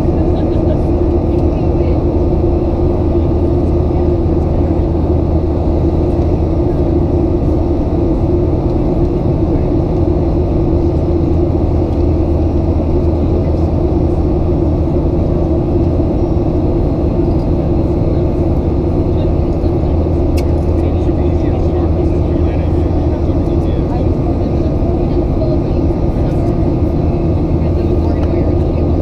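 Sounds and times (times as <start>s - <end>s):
jet engines droning: 0.0s - 29.0s
low hum: 0.0s - 29.0s.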